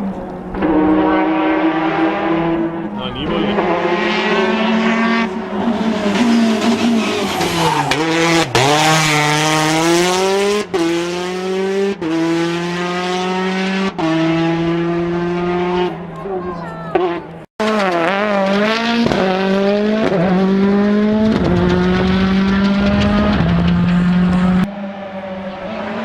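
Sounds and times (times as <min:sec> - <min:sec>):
rally car engine accelerating: 0:00.0 - 0:16.2, 0:16.9 - 0:26.0.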